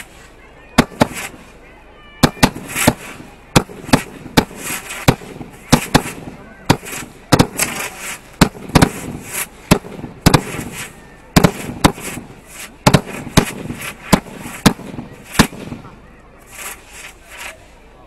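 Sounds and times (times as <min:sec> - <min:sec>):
fireworks bangs: 0:00.0 - 0:01.6, 0:02.2 - 0:17.7
fireworks crackling: 0:00.0 - 0:18.0.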